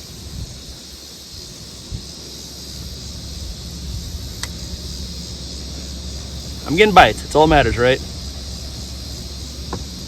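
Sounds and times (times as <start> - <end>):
faint hiss: 0.0 - 10.0
wind rumble on microphone: 0.0 - 10.0.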